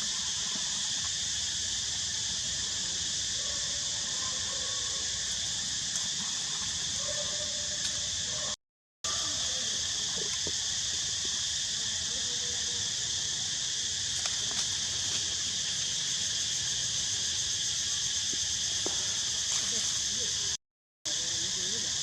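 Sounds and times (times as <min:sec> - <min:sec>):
shrill insect chorus: 0:00.0 - 0:22.0.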